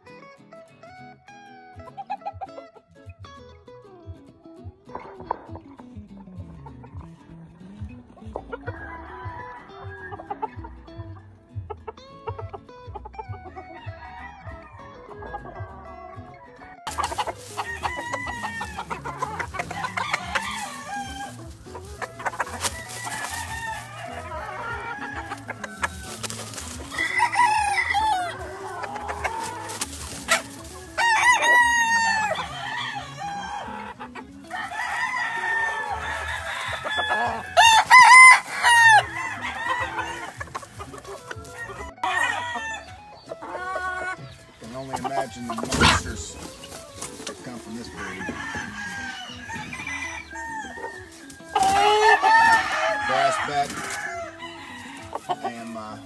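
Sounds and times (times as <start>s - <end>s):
hens clucking: 1.2s - 56.0s
roosters crowing: 8.1s - 11.4s, 12.3s - 56.0s.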